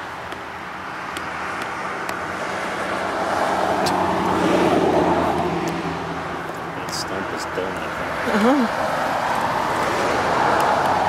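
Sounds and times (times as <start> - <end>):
car passing on road: 0.0 - 11.0.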